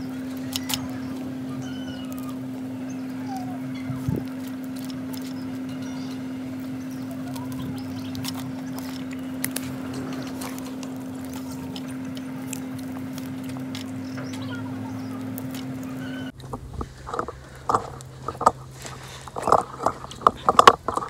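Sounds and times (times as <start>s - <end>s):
corn cobs clicking on wire grill: 0.0s - 21.0s
steady low hum: 0.0s - 21.0s.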